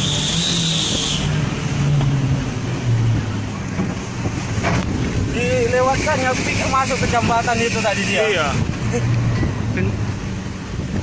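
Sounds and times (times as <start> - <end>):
car engine running hard: 0.0 - 11.0
road and tyre noise: 0.0 - 11.0.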